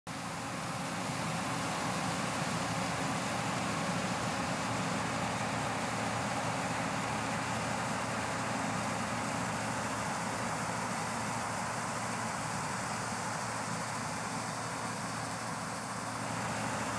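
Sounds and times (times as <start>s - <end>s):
combine harvester running: 0.1s - 16.9s.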